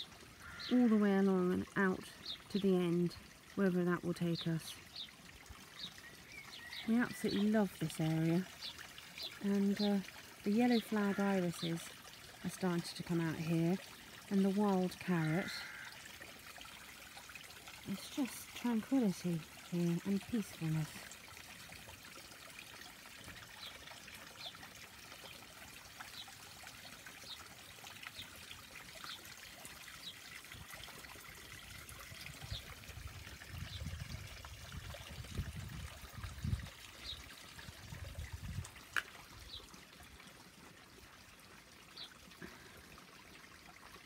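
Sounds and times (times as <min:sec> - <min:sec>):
water trickling: 0:00.0 - 0:44.0.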